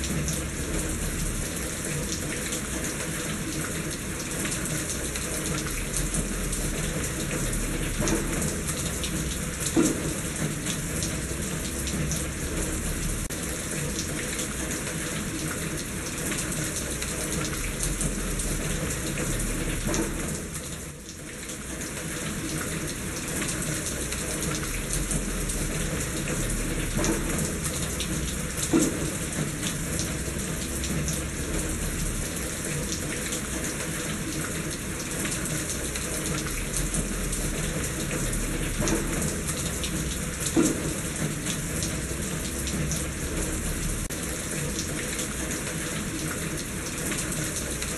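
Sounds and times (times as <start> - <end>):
steady rain: 0.0 - 47.9
water running in a gutter: 0.0 - 47.9.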